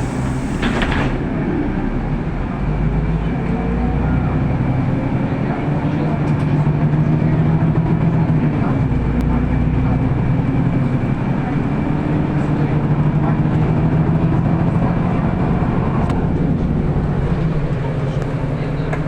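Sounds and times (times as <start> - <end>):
bus engine droning: 0.0 - 19.0
road and body rumble: 0.0 - 19.0.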